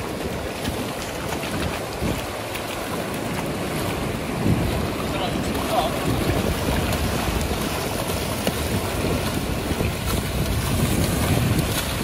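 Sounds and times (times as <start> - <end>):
stingray splashing water: 0.0 - 12.0
surf: 0.0 - 12.0
wind on microphone: 0.0 - 12.0.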